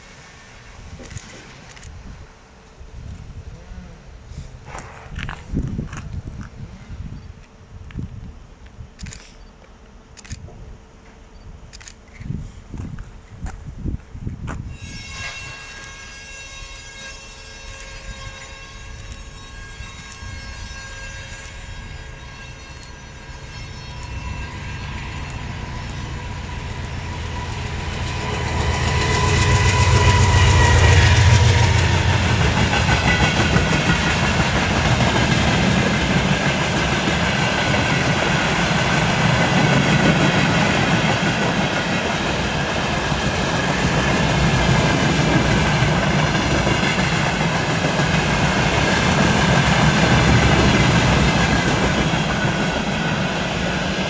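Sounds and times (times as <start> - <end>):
train passing with rumble: 0.0 - 54.0.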